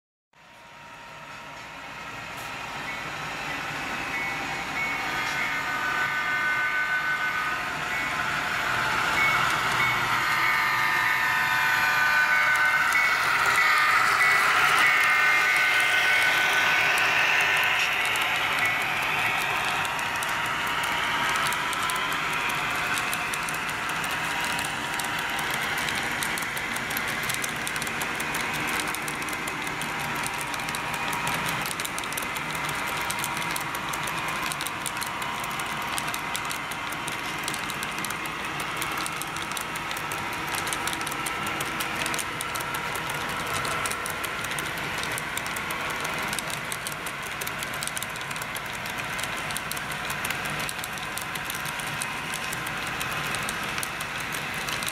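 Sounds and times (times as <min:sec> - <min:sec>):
model train motor whine: 0:04.1 - 0:54.9
small wheels clicking on track: 0:07.9 - 0:54.9.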